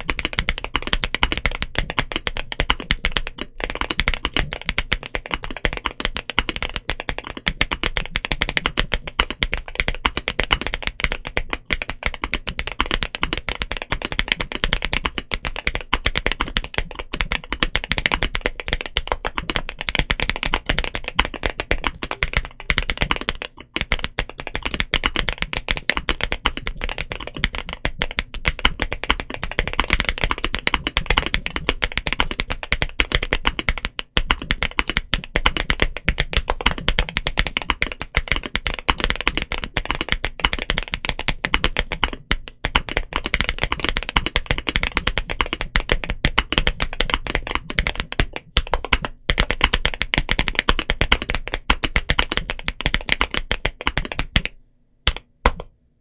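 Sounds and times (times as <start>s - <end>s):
fast mechanical keyboard typing: 0.0s - 55.7s.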